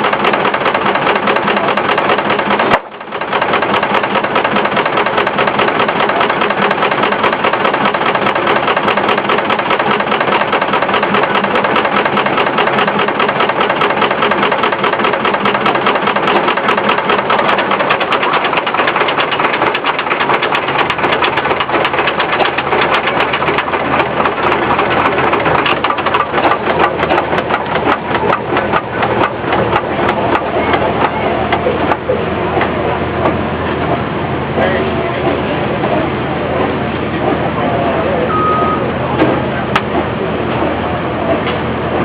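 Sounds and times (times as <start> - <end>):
sawmill mechanical clatter: 0.0 - 42.0
steam engine exhaust beating: 0.0 - 42.0.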